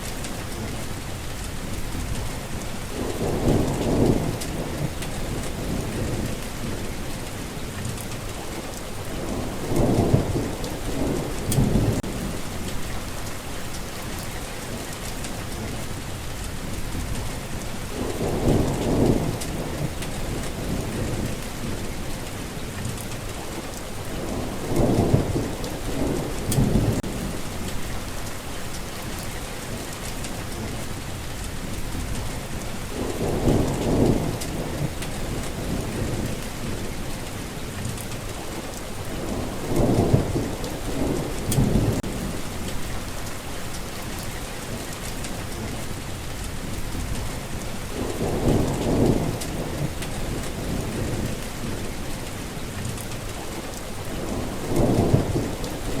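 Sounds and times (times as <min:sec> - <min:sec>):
steady rain: 0:00.0 - 0:56.0
thunder rumbling: 0:01.5 - 0:15.8, 0:16.5 - 0:23.2, 0:24.0 - 0:30.8, 0:31.5 - 0:38.4, 0:39.0 - 0:56.0.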